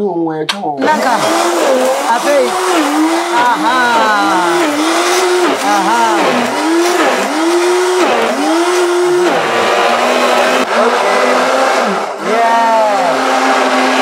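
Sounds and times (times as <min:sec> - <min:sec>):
blender motor running: 0:00.8 - 0:14.0.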